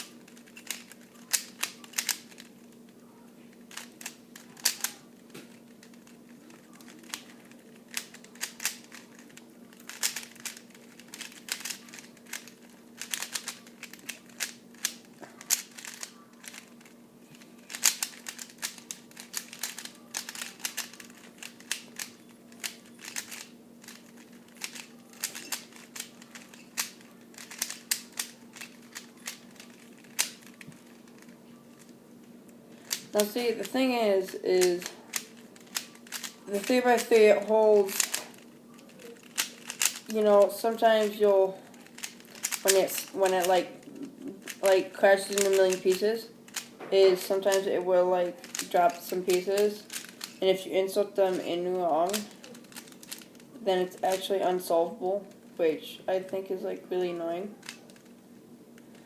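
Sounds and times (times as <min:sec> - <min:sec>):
puzzle cube plastic clicks: 0:00.0 - 0:02.5, 0:03.6 - 0:32.0, 0:32.8 - 0:54.7, 0:57.5 - 0:58.2
faint steady hum: 0:00.0 - 0:59.0.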